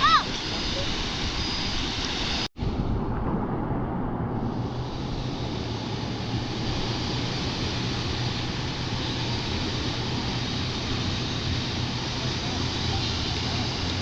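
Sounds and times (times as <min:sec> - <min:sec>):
surf rushing: 0:00.0 - 0:14.0
wind rumble on microphone: 0:00.0 - 0:14.0.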